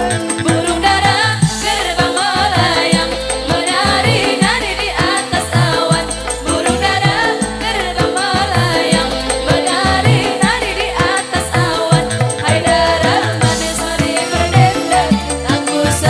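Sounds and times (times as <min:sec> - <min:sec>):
band with steady drum beat: 0:00.0 - 0:16.0
women singing into microphones: 0:00.0 - 0:16.0.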